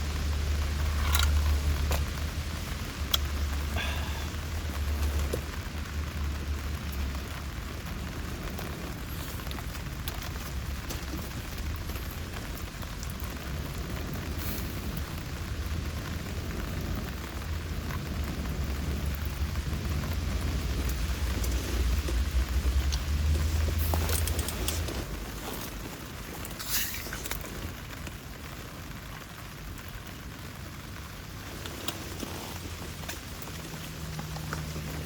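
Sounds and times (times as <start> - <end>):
raindrops tapping: 0.0 - 35.0
steady low rumble: 0.0 - 35.0
steady rain hissing: 0.0 - 35.0.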